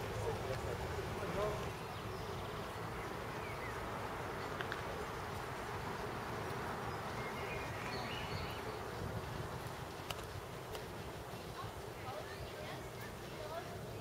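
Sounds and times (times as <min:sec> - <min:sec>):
steady outdoor hum: 0:00.0 - 0:14.0.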